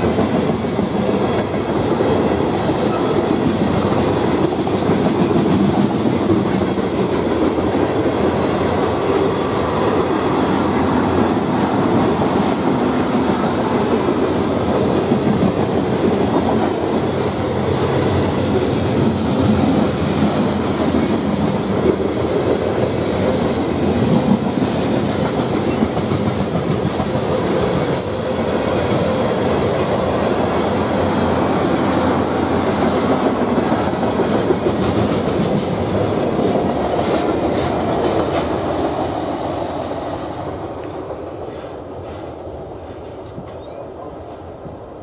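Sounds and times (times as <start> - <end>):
freight train rolling past: 0.0 - 45.0.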